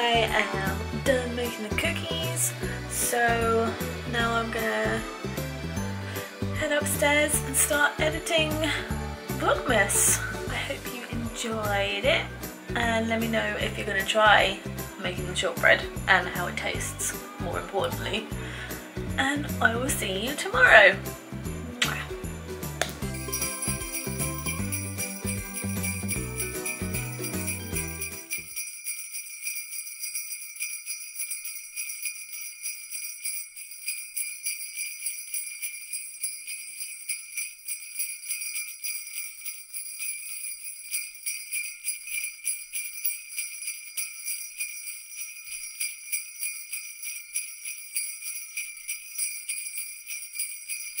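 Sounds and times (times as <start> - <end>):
christmas tune with bass: 0.0 - 51.0
jingle bells shaken: 0.0 - 51.0.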